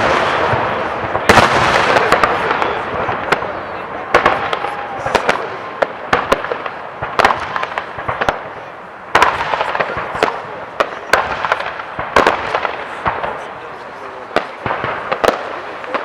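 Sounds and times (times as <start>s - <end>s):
firework crackling: 0.0s - 16.0s
firework cracks and bangs: 0.0s - 16.0s.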